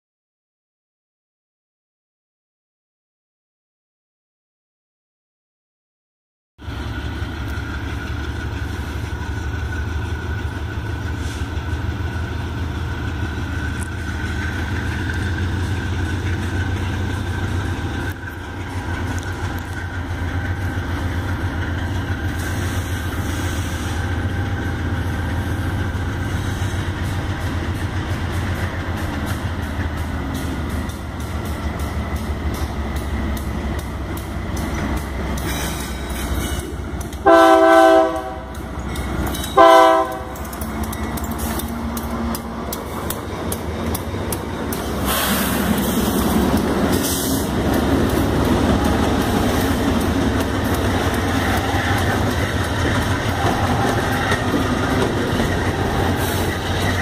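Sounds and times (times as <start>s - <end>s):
diesel locomotive engine rumble: 6.6s - 57.0s.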